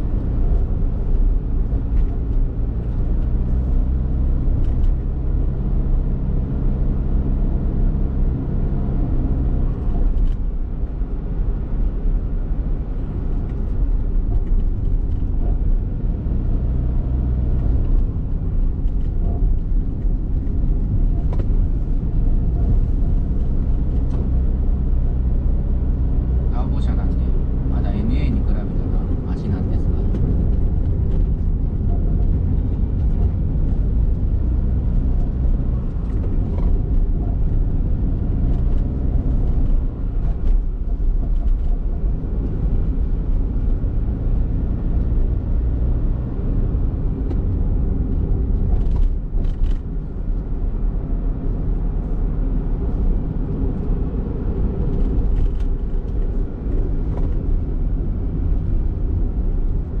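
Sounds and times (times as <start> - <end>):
car engine and road noise: 0.0 - 60.0.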